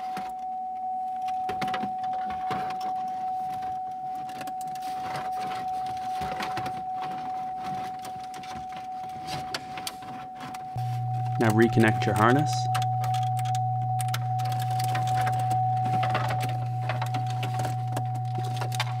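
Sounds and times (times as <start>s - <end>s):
steady high-pitched tone: 0.1s - 19.0s.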